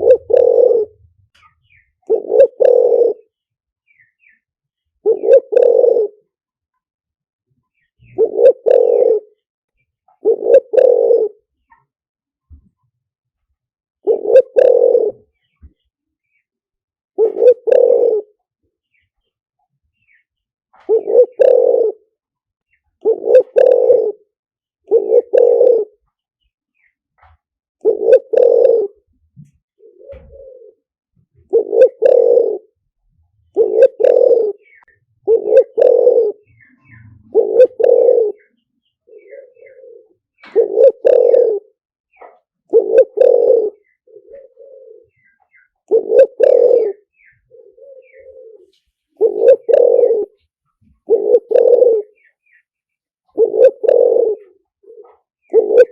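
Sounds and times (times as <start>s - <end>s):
dove cooing: 0.0s - 4.4s, 5.0s - 6.4s, 7.7s - 9.4s, 10.1s - 11.9s, 14.0s - 15.8s, 17.2s - 18.5s, 20.1s - 22.2s, 23.0s - 26.1s, 26.8s - 52.7s, 53.3s - 55.9s.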